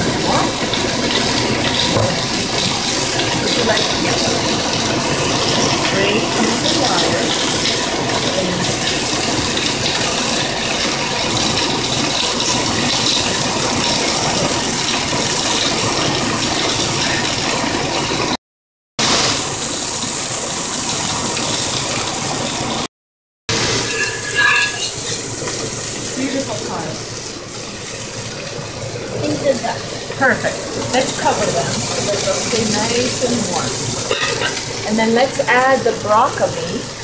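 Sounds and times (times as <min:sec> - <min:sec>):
boiling water hissing and rattling: 0:00.0 - 0:18.4, 0:19.0 - 0:22.9, 0:23.5 - 0:37.0.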